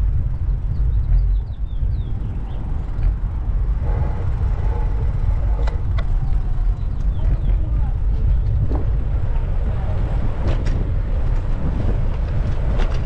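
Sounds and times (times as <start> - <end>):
wind rumbling over microphone: 0.0 - 13.0.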